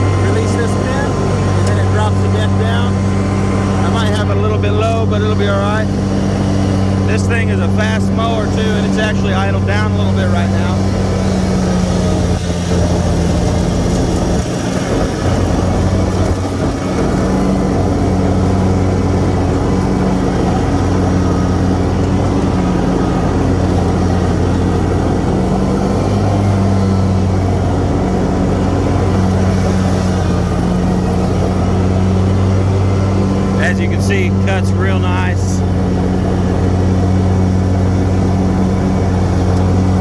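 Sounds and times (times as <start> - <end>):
mower blades cutting grass: 0.0 - 40.0
mower engine running: 0.0 - 40.0.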